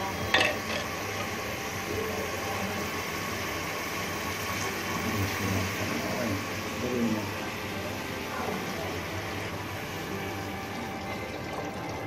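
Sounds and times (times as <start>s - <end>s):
gas burner hissing: 0.0s - 12.0s
spices frying in oil: 0.0s - 12.0s.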